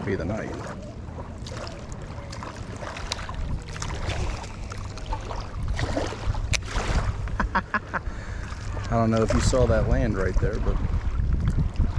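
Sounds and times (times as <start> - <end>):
shoreline water washing: 0.0 - 11.9
wind rumbling on microphone: 0.0 - 11.9.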